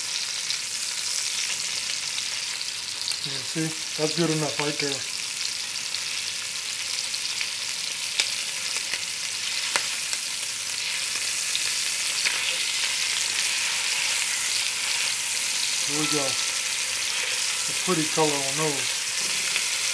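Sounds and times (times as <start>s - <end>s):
meat sizzling in a pot: 0.0s - 19.9s.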